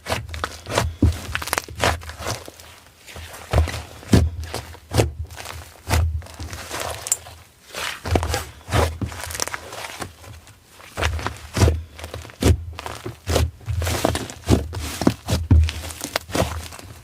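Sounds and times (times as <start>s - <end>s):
slime squelching: 0.0s - 17.0s.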